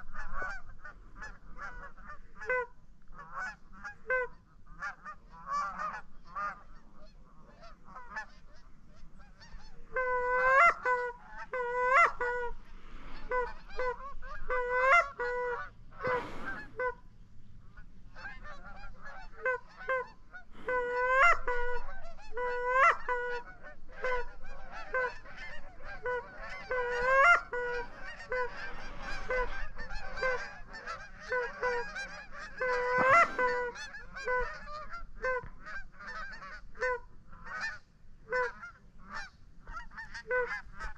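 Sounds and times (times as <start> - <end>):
geese honking: 0.0 - 17.0, 17.6 - 40.9.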